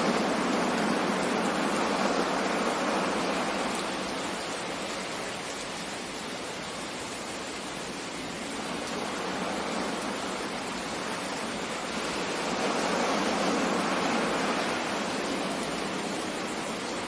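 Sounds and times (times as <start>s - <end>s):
sea surf: 0.0s - 17.0s
steady rain: 0.0s - 17.0s.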